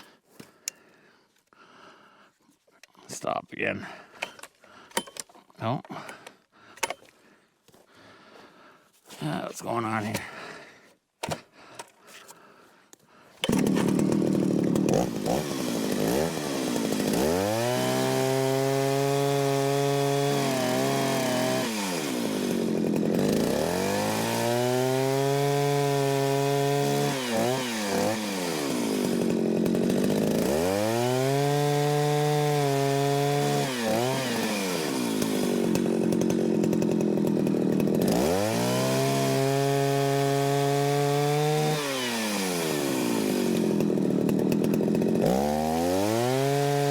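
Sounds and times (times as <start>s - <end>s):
chainsaw cutting logs: 3.8s - 8.5s, 11.2s - 46.9s.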